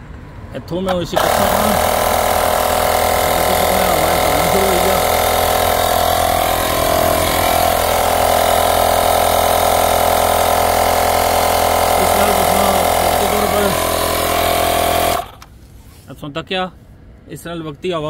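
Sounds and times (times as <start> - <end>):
tyre inflator compressor running: 0.9 - 15.5.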